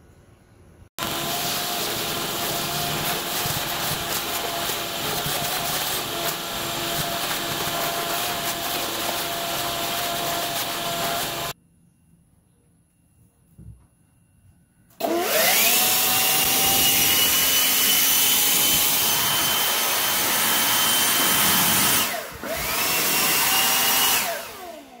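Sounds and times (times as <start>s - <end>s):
shop vac whining suction: 1.0s - 11.6s, 15.0s - 25.0s.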